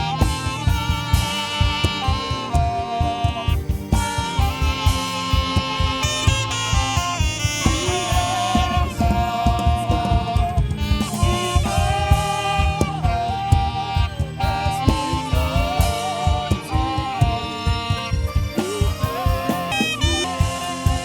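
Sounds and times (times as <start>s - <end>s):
drum and bass beat: 0.0s - 21.0s
saxophone melody: 0.0s - 21.0s.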